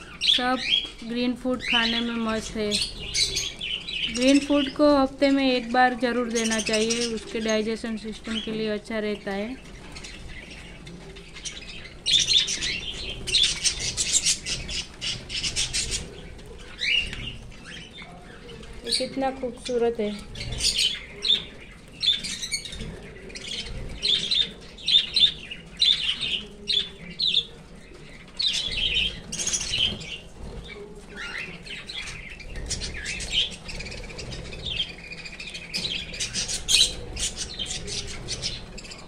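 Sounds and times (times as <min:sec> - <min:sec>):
cockatiels squawking and chirping: 0:00.0 - 0:04.9, 0:09.4 - 0:39.0.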